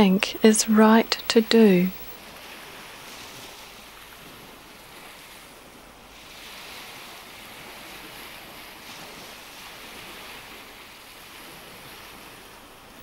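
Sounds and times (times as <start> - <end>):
surf washing on a shore: 2.2 - 13.0.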